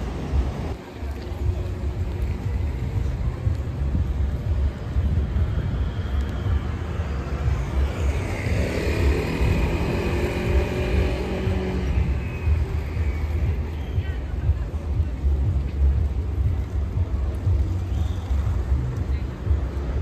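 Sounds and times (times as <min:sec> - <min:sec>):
high engine whine: 0:00.0 - 0:20.0.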